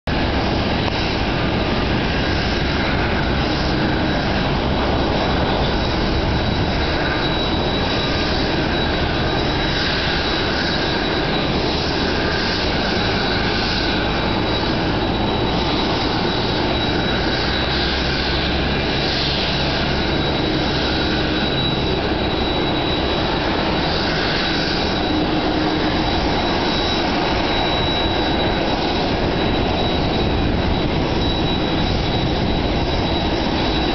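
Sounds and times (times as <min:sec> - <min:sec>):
high jet engine whine: 0:00.0 - 0:33.9
jet engine rushing: 0:00.1 - 0:33.9.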